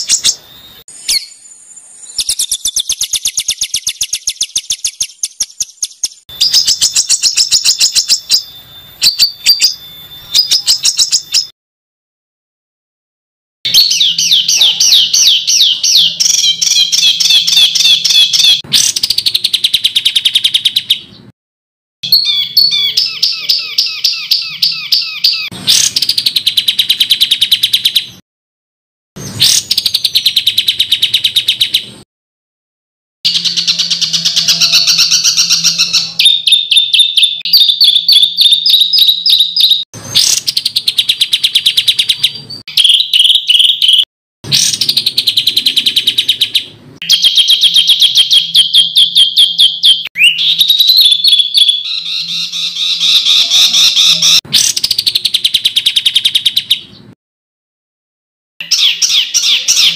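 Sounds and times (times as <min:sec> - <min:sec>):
songbird singing harsh phrases: 0:00.0 - 0:11.5, 0:13.7 - 0:21.3, 0:22.0 - 0:28.2, 0:29.2 - 0:32.0, 0:33.3 - 0:57.2, 0:58.6 - 0:59.9.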